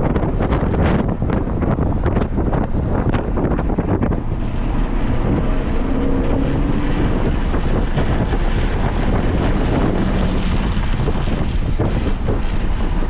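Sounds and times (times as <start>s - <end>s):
race car engine at speed: 0.0s - 13.0s
wind buffeting on microphone: 0.0s - 13.0s.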